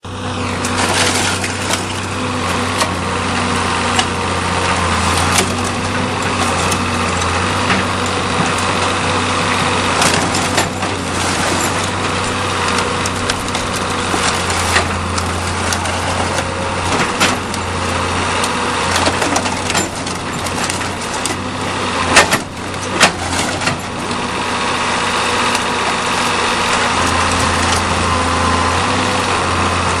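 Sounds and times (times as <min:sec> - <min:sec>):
diesel engine running: 0:00.0 - 0:30.0
metal crunching and snapping: 0:00.5 - 0:30.0.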